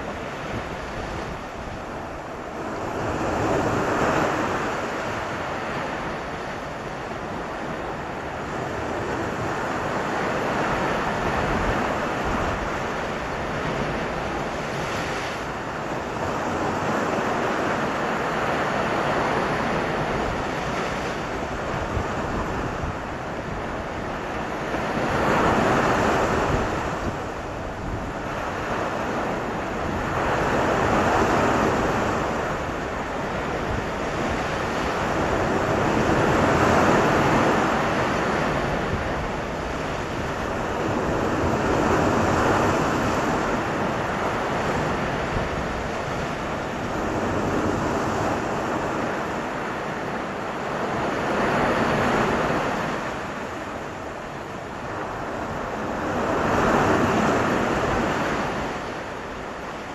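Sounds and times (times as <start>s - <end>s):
sea surf breaking on shore: 0.0s - 59.9s.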